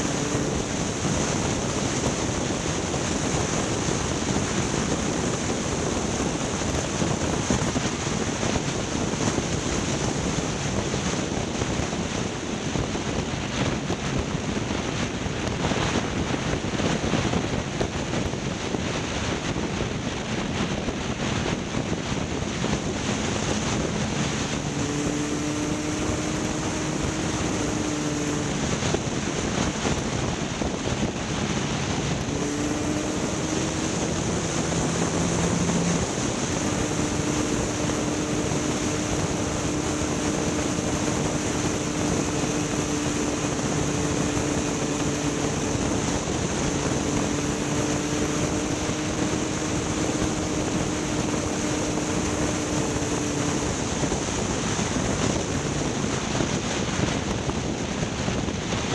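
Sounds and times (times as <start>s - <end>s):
vehicle engine running: 0.0s - 58.9s
wind rushing over microphone: 0.0s - 58.9s.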